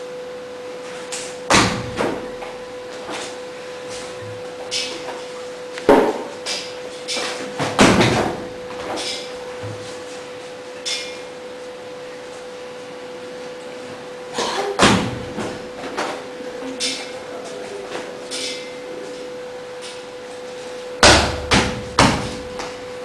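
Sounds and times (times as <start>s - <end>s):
steady thin hum: 0.0s - 23.0s.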